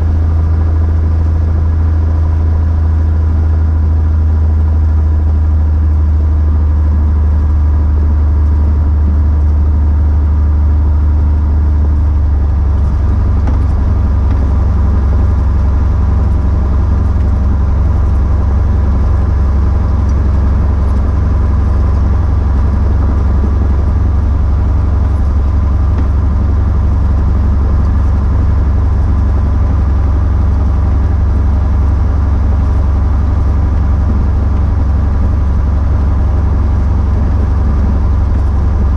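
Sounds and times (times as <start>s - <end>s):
airplane engine running: 0.0s - 38.9s.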